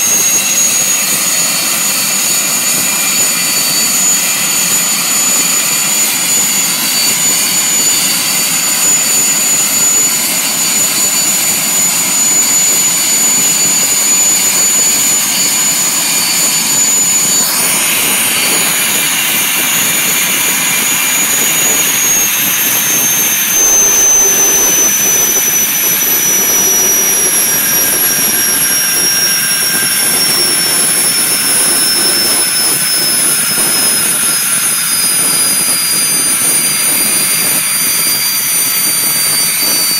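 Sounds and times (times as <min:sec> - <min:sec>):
jet engine running with whine: 0:00.0 - 0:39.9.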